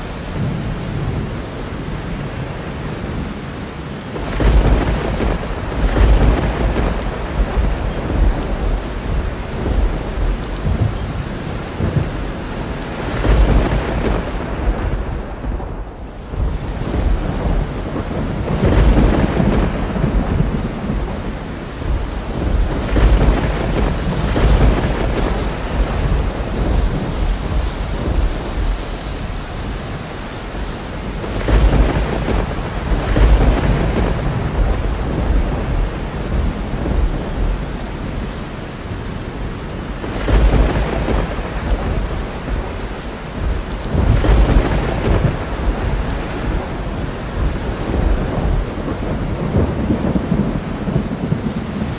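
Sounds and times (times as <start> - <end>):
heavy rain: 0.0 - 51.9
rolling thunder: 0.0 - 51.9.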